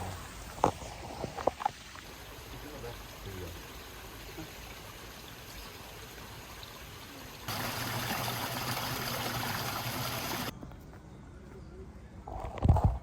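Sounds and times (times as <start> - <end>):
rushing water: 0.0 - 10.5.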